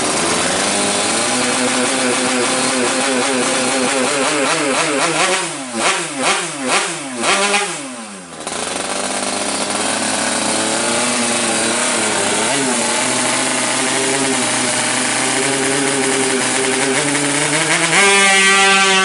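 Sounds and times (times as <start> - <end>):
two-stroke engine revving: 0.0 - 19.0.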